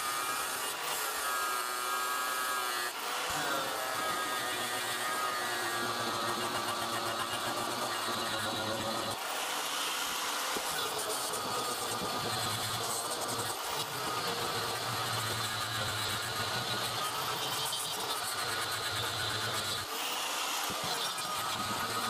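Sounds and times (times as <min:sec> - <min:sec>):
disc grinding on metal: 0:00.0 - 0:09.2, 0:10.0 - 0:22.0
angle grinder motor whine: 0:00.0 - 0:22.0.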